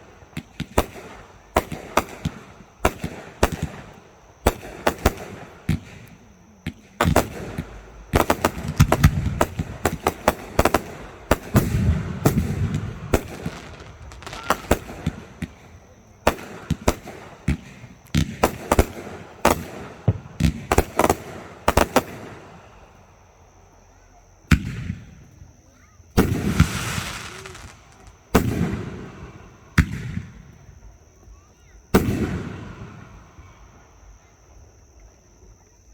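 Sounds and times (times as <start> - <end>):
fireworks bangs and crackles: 0.0 - 23.0, 24.5 - 34.4
fireworks low rumble: 0.0 - 35.6.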